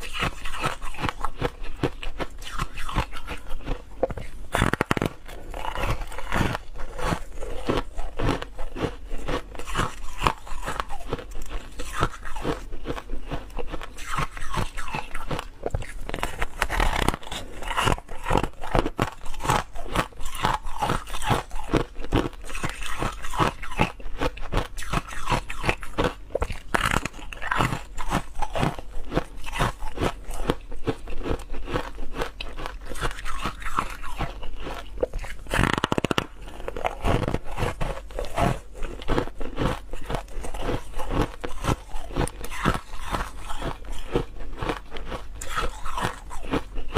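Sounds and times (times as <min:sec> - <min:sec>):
ice being chewed: 0:00.0 - 0:46.9.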